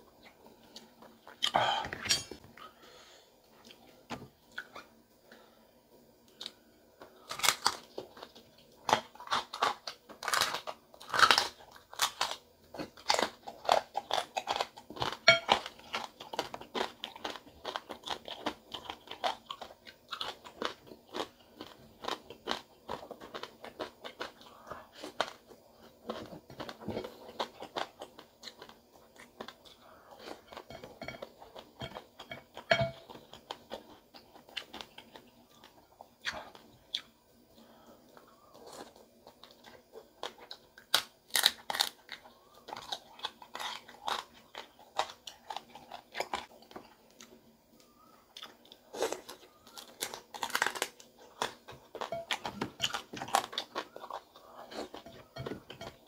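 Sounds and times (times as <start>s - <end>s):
crunching crispy food: 6.3s - 37.1s, 37.7s - 55.8s.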